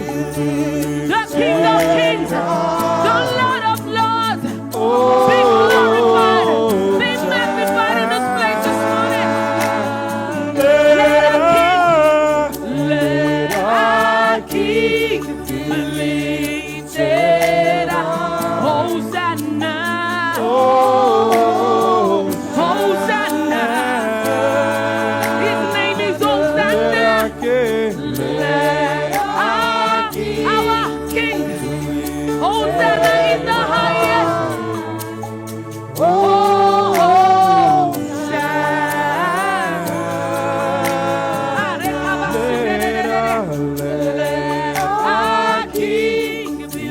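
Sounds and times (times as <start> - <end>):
group singing gospel song: 0.0 - 46.9.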